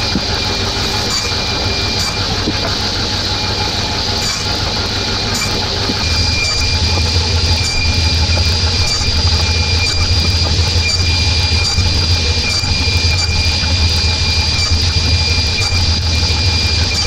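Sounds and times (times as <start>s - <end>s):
table saw whining: 0.0s - 17.0s.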